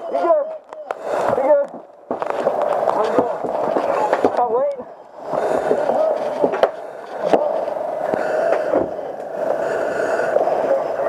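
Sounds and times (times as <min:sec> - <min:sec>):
steady droning hum: 0:00.0 - 0:11.0.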